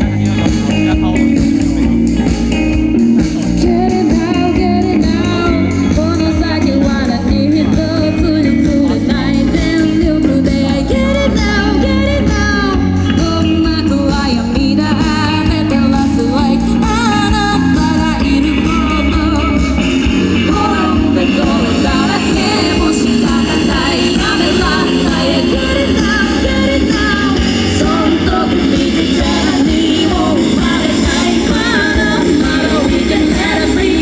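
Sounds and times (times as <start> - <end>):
rock band playing: 0.0 - 34.0
woman singing lead vocal: 3.2 - 34.0.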